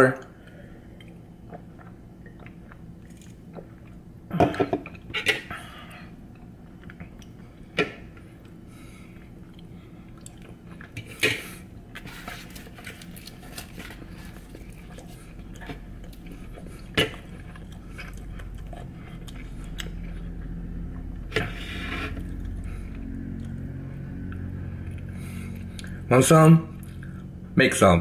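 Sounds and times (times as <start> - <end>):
person chewing food: 0.4 - 26.0.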